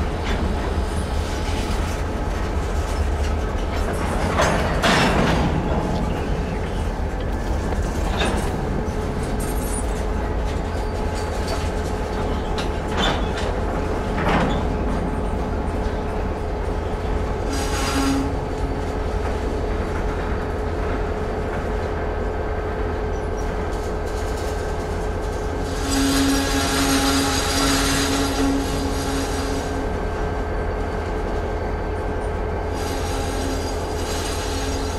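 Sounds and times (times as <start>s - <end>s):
freight train rumbling: 0.0s - 34.9s
train clanks: 0.0s - 34.9s.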